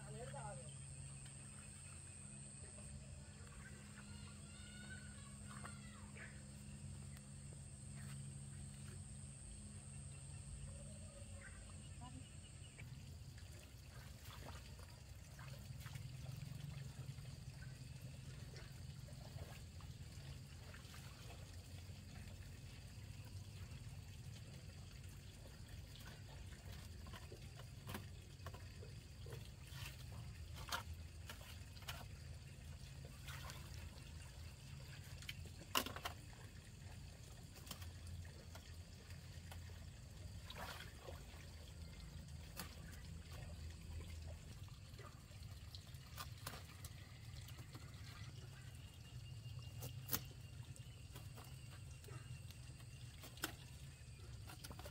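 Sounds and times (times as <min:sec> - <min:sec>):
faint trickling water: 0:00.0 - 0:54.9.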